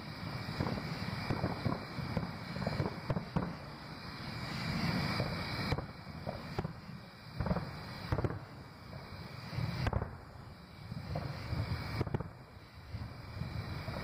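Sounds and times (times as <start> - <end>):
distant fireworks bursting: 0.0 - 14.0.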